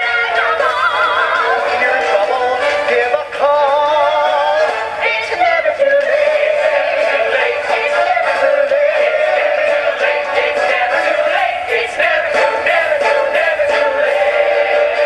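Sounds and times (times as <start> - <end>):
man singing with vibrato: 0.0 - 15.0
musical theatre backing score: 0.0 - 15.0.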